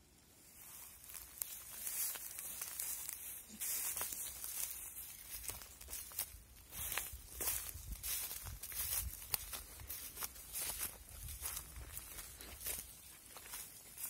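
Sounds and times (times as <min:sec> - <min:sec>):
footsteps crunching through dry grass: 0:00.1 - 0:14.0.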